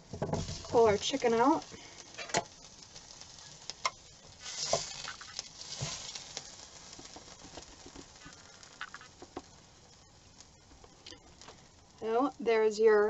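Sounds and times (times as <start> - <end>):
chicken sizzling: 0.0 - 13.0.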